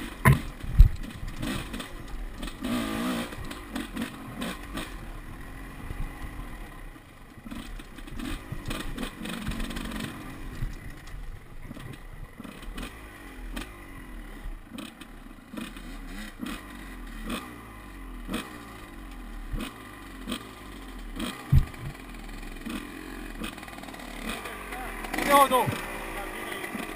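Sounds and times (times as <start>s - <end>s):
dirt bike engine revving: 0.0s - 11.0s, 11.6s - 26.9s.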